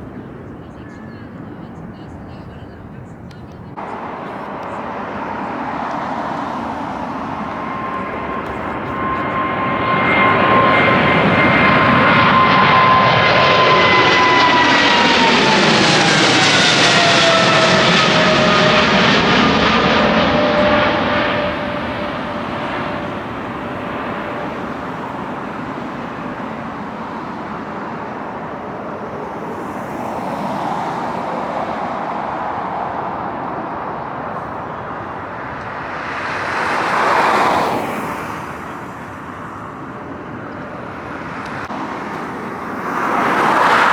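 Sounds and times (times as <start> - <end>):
jet airliner passing overhead: 0.0 - 43.9.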